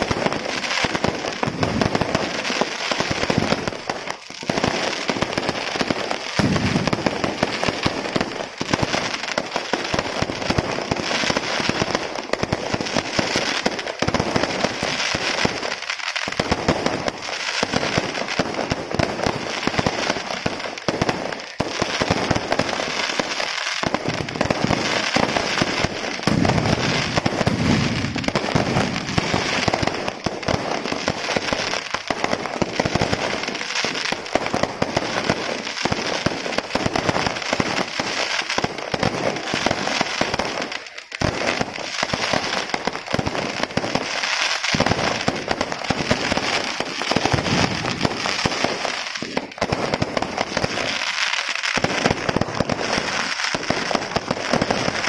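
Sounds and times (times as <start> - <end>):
fireworks crackling and popping: 0.0 - 55.0.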